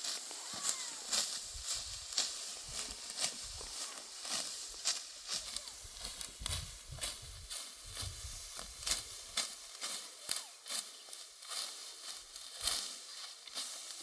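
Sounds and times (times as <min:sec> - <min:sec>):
dry crackling and rustling: 0:00.0 - 0:14.0.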